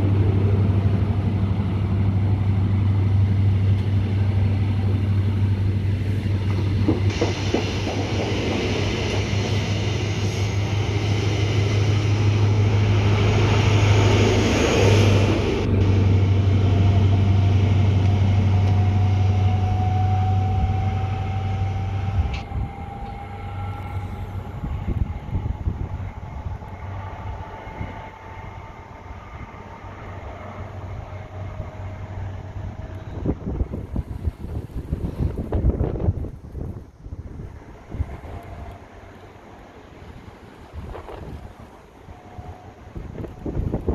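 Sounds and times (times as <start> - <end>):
train passing: 0.0 - 43.9.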